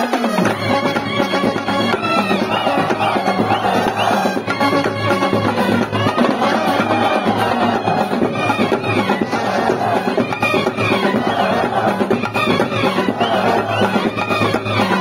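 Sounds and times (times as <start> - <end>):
continuous drumming: 0.0 - 15.0
street brass band playing: 0.0 - 15.0
trumpets carrying the tune: 0.0 - 15.0.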